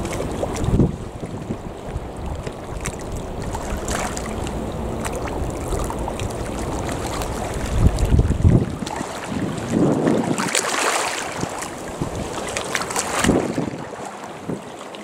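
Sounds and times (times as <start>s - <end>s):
wind buffeting microphone: 0.0s - 14.8s
small waves lapping and splashing: 0.0s - 15.0s.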